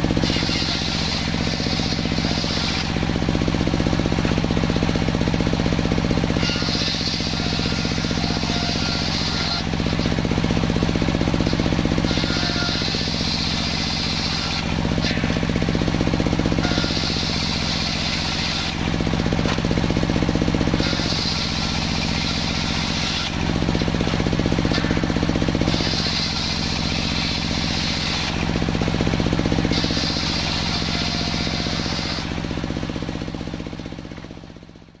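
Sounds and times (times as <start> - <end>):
circular saw machine hum: 0.0 - 35.0
saw whining through wood: 0.0 - 35.0.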